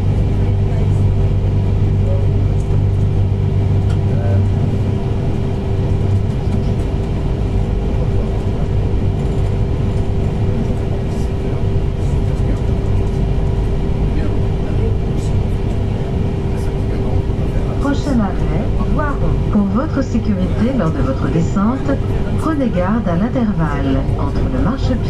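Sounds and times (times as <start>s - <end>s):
low hum: 0.0s - 25.0s
rumble of wheels on rail: 0.0s - 25.0s.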